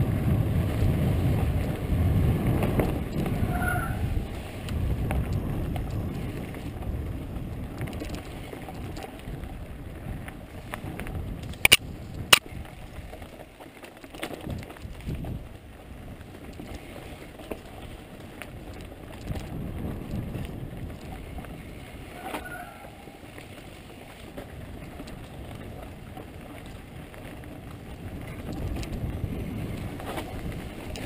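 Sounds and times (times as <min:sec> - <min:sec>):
wind buffeting microphone: 0:00.0 - 0:13.5, 0:14.4 - 0:31.0
bike rattling over bumps: 0:00.0 - 0:31.0
tyres rolling on dirt: 0:00.0 - 0:31.0.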